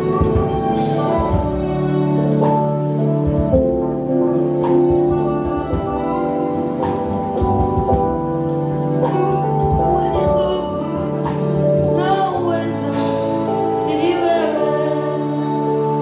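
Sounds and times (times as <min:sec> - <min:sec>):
drum and cymbal strikes: 0:00.0 - 0:16.0
sustained keyboard chords: 0:00.0 - 0:16.0.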